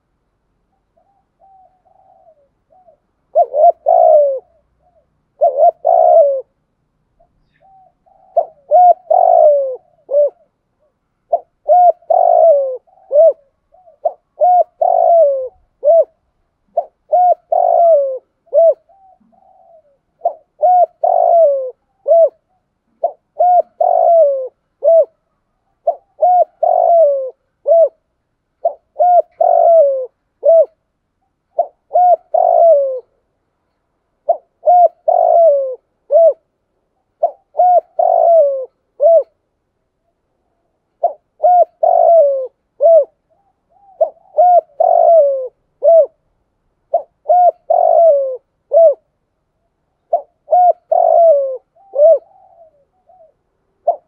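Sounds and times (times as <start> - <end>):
dove cooing: 0.0 - 6.6, 7.2 - 33.3, 34.1 - 39.4, 40.0 - 49.1, 49.9 - 54.0.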